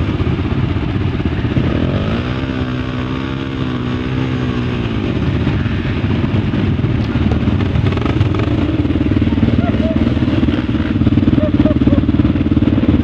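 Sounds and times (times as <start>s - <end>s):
motorcycle engine revving: 0.0s - 13.0s
rumble of motorcycles: 0.0s - 13.0s.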